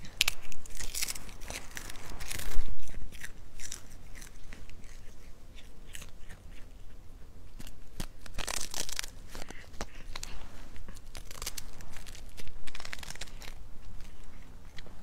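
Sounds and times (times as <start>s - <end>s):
cat chewing fish: 0.0s - 15.0s.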